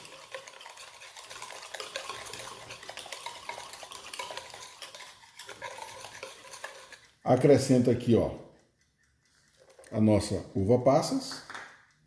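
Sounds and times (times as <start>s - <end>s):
whisk clicking against container: 0.0s - 12.0s.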